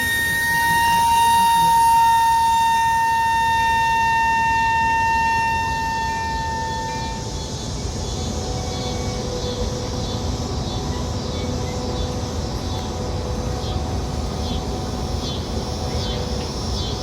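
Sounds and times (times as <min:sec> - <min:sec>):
high-pitched train tone: 0:00.0 - 0:17.0
train low rumble: 0:00.0 - 0:17.0.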